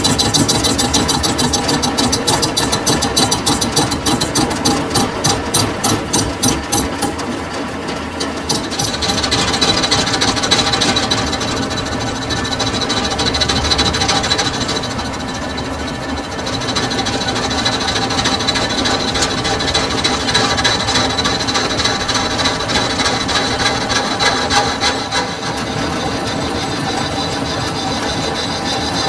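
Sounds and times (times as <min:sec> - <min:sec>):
metal lathe cutting metal: 0:00.0 - 0:29.0.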